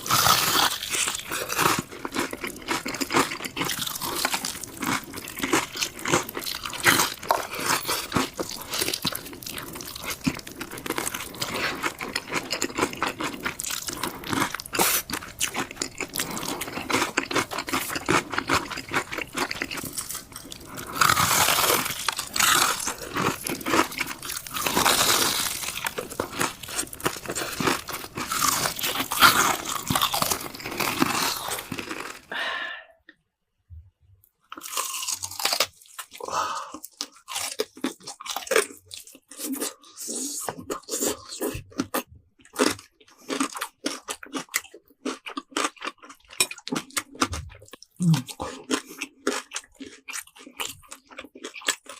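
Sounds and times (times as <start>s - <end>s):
crunching and chewing crisp food: 0.0s - 32.4s, 34.2s - 51.9s.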